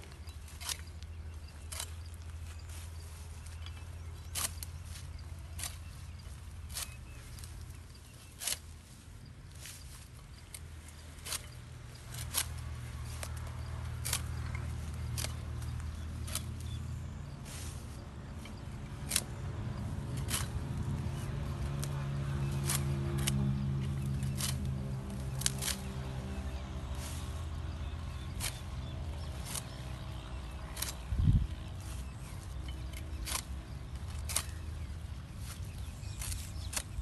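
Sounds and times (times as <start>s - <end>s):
stems snapping as cut by hand: 0.0s - 9.0s, 9.6s - 37.0s
low mechanical drone: 0.0s - 37.0s.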